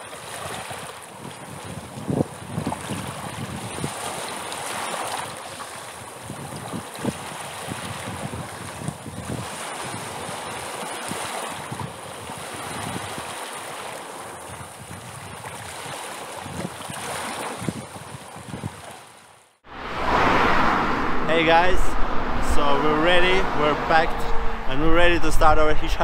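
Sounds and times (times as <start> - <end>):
ocean waves washing in and out: 0.0 - 26.0.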